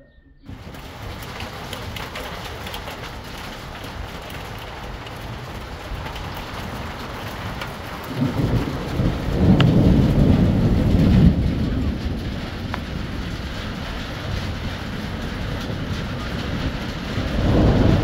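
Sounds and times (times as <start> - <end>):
heavy rain falling: 0.5 - 18.0
low thunder rumble: 0.5 - 18.0.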